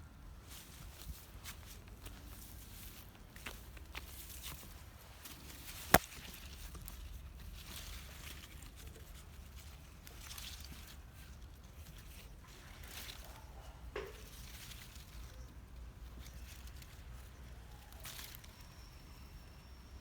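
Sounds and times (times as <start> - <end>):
plants rustling: 0.4 - 19.3.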